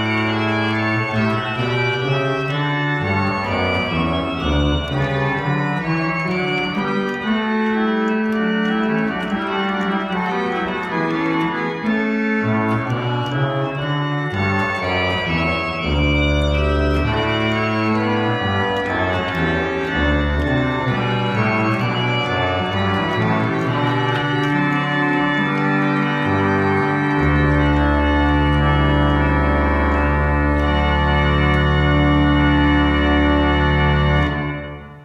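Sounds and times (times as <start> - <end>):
pipe organ playing: 0.0 - 35.0.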